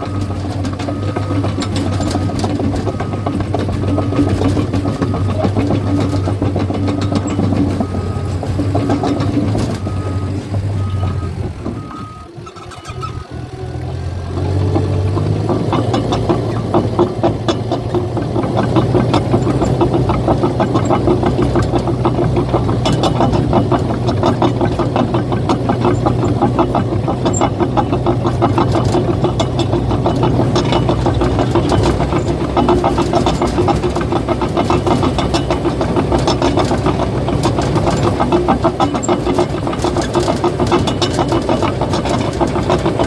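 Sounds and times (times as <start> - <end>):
steel tracks clattering: 0.0 - 13.2, 13.9 - 43.0
bulldozer diesel engine droning: 0.0 - 43.0.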